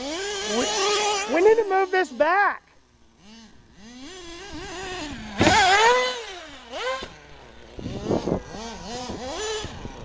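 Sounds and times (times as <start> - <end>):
toy car motor revving: 0.0 - 10.0.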